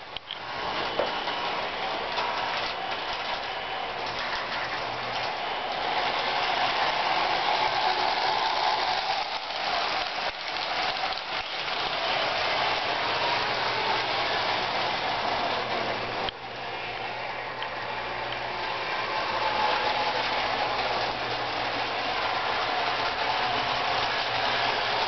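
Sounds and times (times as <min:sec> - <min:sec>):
toy train whir and rumble: 0:00.0 - 0:25.0.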